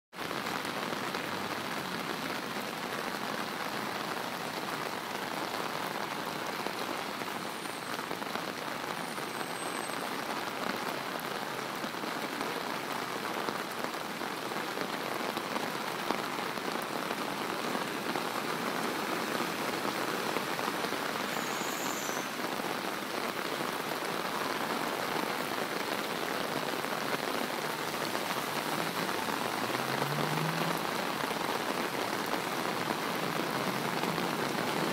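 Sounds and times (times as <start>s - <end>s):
heavy rain on flooded road: 0.1s - 34.9s.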